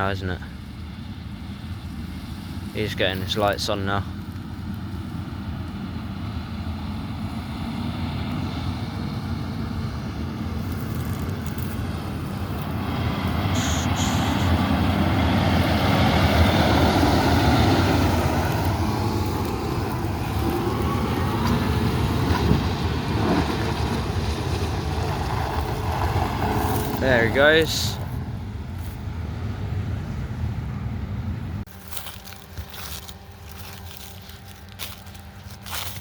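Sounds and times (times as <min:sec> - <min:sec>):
diesel farm machinery engine: 0:00.0 - 0:36.0.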